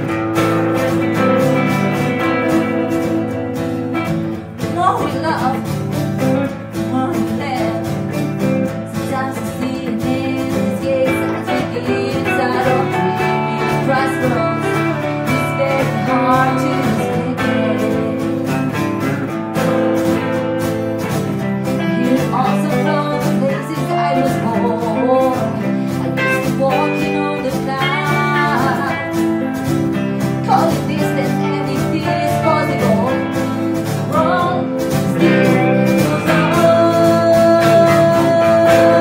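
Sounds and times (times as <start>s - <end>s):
woman singing: 0.0s - 19.1s, 21.6s - 39.0s
electric guitar: 0.0s - 39.0s
strummed acoustic guitar: 0.0s - 39.0s.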